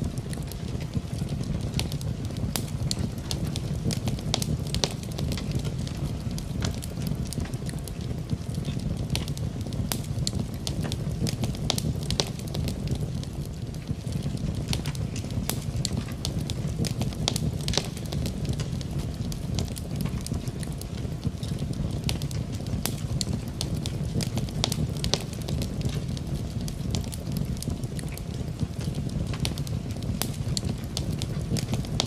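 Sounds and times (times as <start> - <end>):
steady rain: 0.0 - 32.0
wood fire crackling and popping: 0.0 - 32.0.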